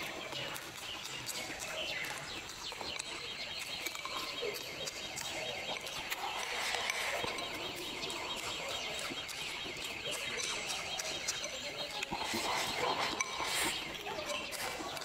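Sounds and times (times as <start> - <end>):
chopsticks clicking against bowl: 0.0 - 15.0.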